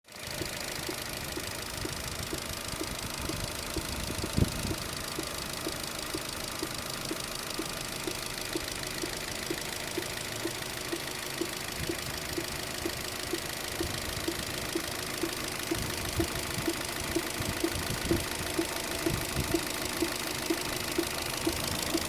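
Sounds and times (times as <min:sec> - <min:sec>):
car engine idling with knock: 0:00.2 - 0:22.0
loud engine thump: 0:01.3 - 0:11.1, 0:11.8 - 0:22.0.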